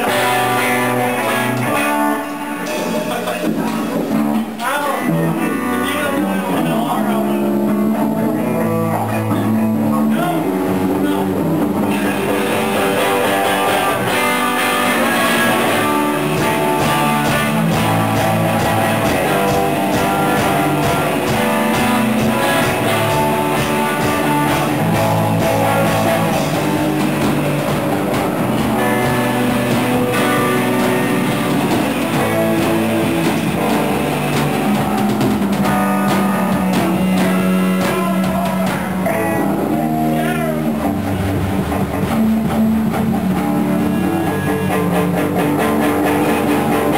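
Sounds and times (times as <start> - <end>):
drum kit beat: 0.0 - 7.0, 7.6 - 46.9
electric guitars: 0.0 - 46.9.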